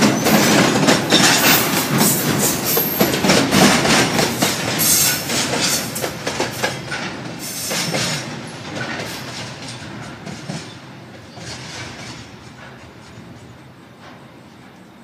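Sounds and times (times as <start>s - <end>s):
train wheels knocking over rail joints: 0.0s - 14.3s.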